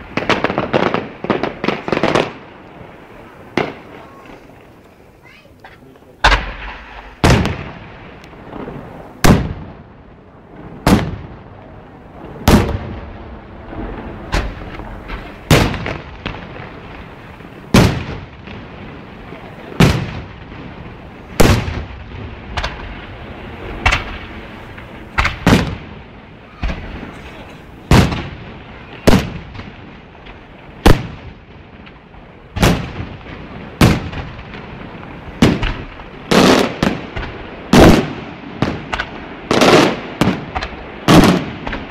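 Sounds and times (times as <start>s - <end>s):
fireworks bangs with echoing rumble: 0.0s - 41.9s.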